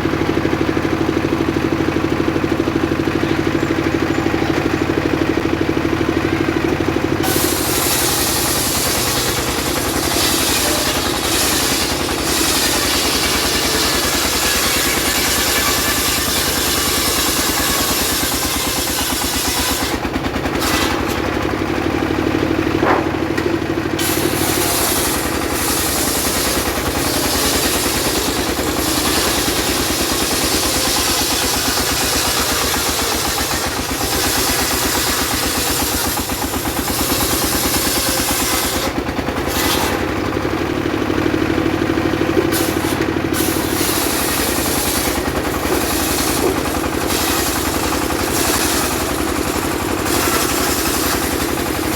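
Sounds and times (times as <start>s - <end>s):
sawmill engine and blade cutting wood: 0.0s - 51.9s.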